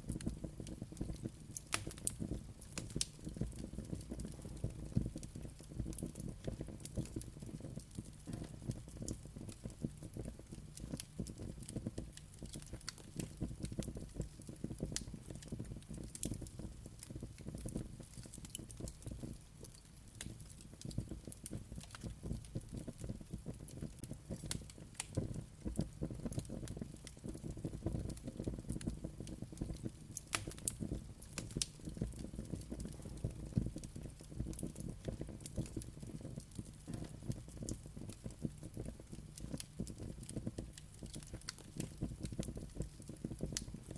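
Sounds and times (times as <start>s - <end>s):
fire crackles and pops: 0.0s - 43.9s
low rumble of flames: 0.0s - 43.9s.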